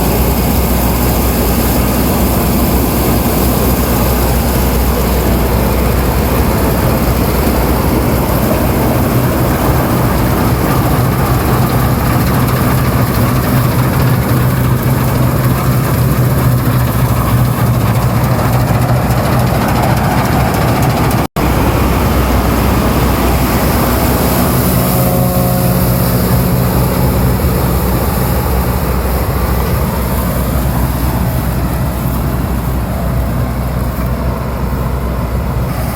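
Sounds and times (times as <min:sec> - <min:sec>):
combine harvester mechanical drone: 0:00.0 - 0:35.9.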